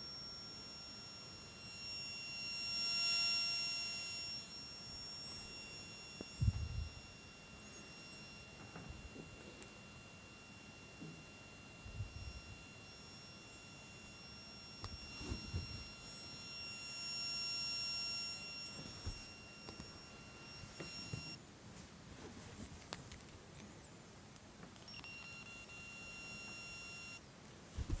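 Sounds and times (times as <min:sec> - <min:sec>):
steady electronic tone: 0:00.0 - 0:21.4, 0:24.9 - 0:27.2.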